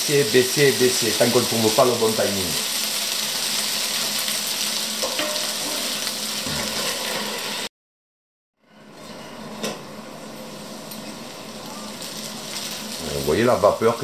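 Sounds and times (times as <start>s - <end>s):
potatoes sizzling in a frying pan: 0.0s - 7.7s, 10.4s - 14.0s.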